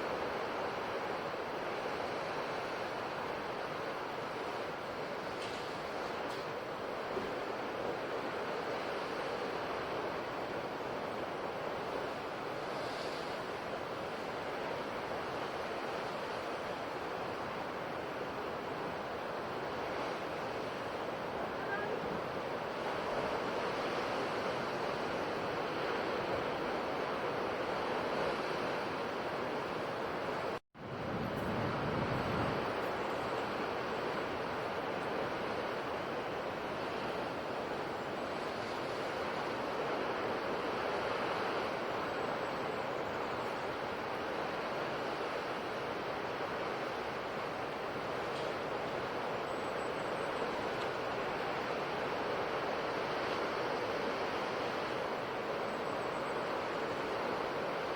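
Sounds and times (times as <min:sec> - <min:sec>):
ocean surf washing on shore: 0:00.0 - 0:57.9.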